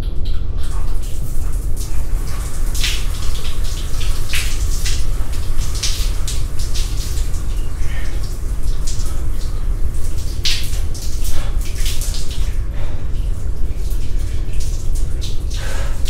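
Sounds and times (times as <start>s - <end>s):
shower spray on tiled floor: 0.6s - 13.0s, 13.6s - 16.0s
water splashing: 0.6s - 16.0s.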